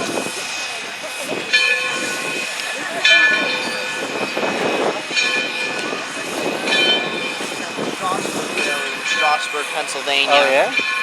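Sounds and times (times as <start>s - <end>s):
low train rumble: 0.0s - 11.0s.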